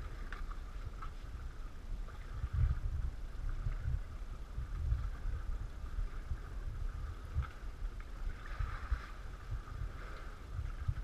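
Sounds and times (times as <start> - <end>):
low uneven rumble: 0.0 - 11.0
water sloshing and dripping: 0.0 - 11.0.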